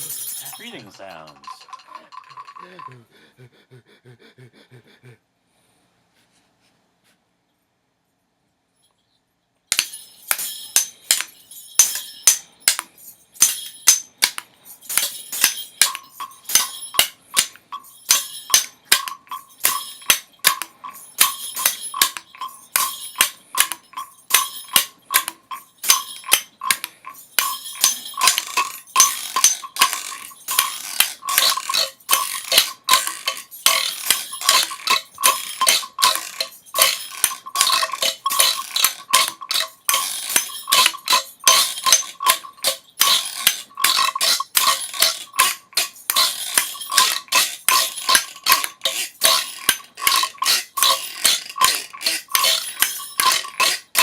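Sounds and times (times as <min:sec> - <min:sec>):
rapid irregular clicks and knocks: 0:00.0 - 0:03.0, 0:09.7 - 0:54.0
steady ringing tone: 0:09.8 - 0:54.0.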